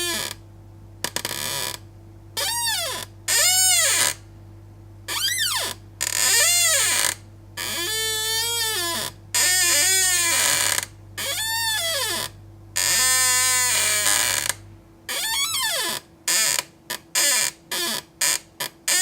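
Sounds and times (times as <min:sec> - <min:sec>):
office chair squeaking: 0:00.0 - 0:00.4, 0:01.0 - 0:01.8, 0:02.4 - 0:04.2, 0:05.1 - 0:19.0.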